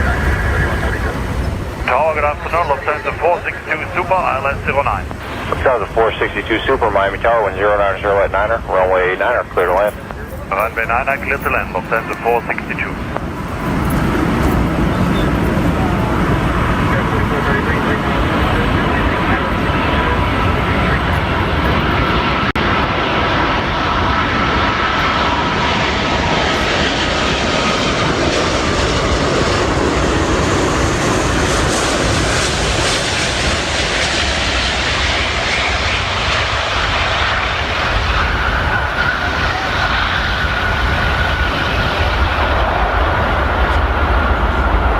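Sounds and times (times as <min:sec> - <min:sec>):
jet engine roar: 0:00.0 - 0:44.9
jet engine whine: 0:00.0 - 0:44.9.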